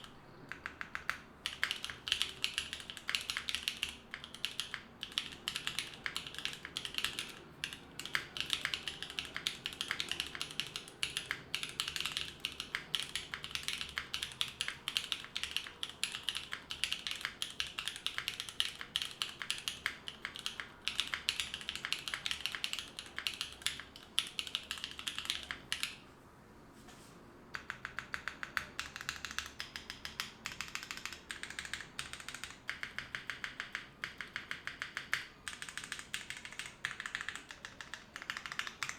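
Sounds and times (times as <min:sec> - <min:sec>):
mechanical keyboard clacks: 0:00.0 - 0:26.0, 0:27.5 - 0:38.9.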